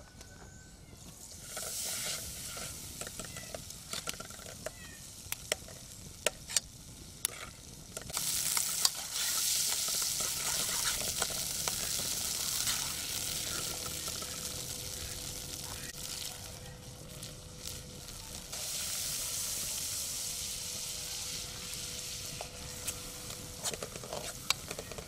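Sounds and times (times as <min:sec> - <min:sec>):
butter sizzling in pan: 0:01.2 - 0:25.0.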